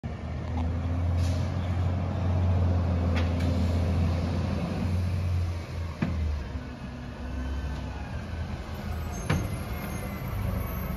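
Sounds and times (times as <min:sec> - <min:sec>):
heavy truck engine running: 0:00.0 - 0:10.9.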